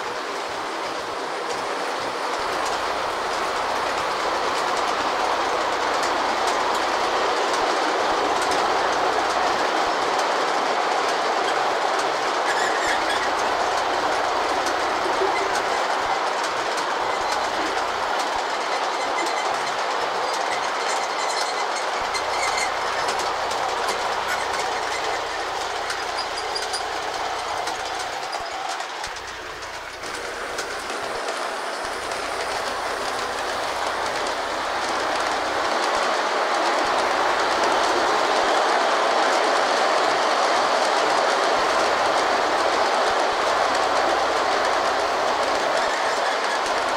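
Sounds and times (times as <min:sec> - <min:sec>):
model train wheels rumbling: 0:00.0 - 0:46.9.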